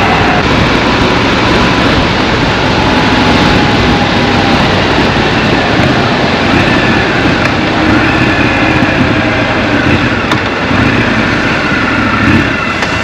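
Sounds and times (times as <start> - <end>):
motorcycle engine rumble: 0.0 - 13.0
road and air noise: 0.0 - 13.0.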